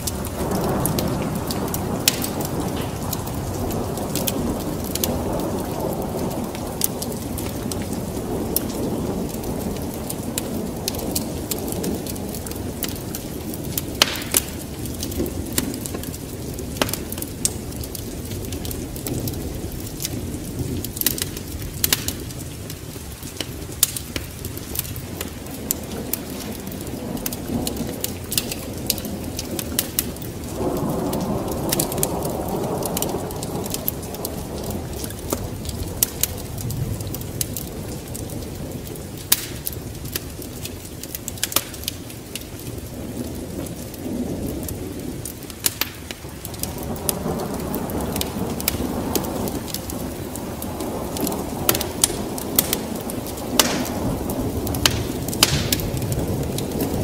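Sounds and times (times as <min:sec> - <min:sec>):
low rumbling thunder: 0:00.0 - 0:41.0, 0:41.6 - 0:57.0
rain: 0:00.0 - 0:57.0
wood fire crackling: 0:00.0 - 0:57.0.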